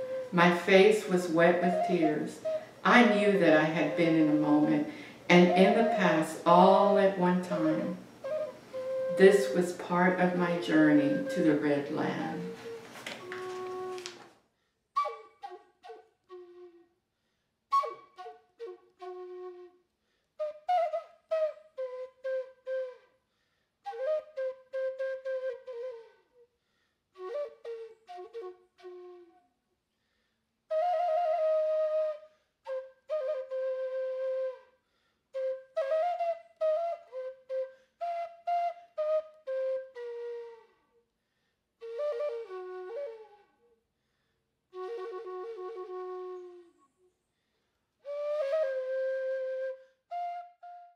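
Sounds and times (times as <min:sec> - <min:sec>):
solo flute melody: 0:00.0 - 0:14.3, 0:15.0 - 0:17.0, 0:17.7 - 0:23.2, 0:23.8 - 0:26.6, 0:27.2 - 0:29.6, 0:30.7 - 0:41.1, 0:41.8 - 0:43.8, 0:44.7 - 0:47.2, 0:48.0 - 0:50.9.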